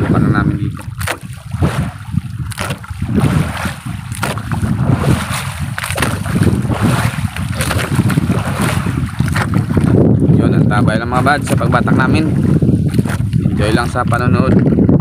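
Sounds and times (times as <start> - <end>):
sea washing around hull: 0.0 - 15.0
wind buffeting microphone: 0.0 - 15.0.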